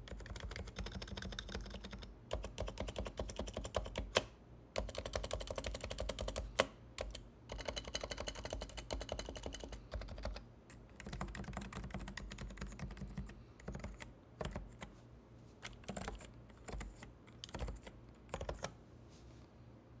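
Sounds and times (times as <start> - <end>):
typing on a quiet keyboard: 0.0 - 14.9, 15.6 - 18.8.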